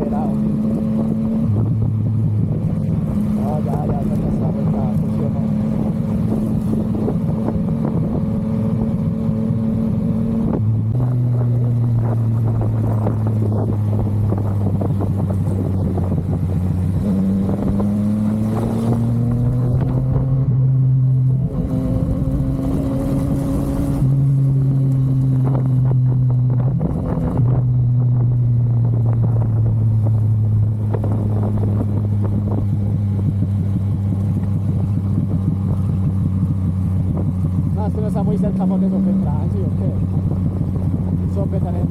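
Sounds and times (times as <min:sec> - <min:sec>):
motorcycle engine running: 0:00.0 - 0:41.9
wind rushing past microphone: 0:00.1 - 0:37.9.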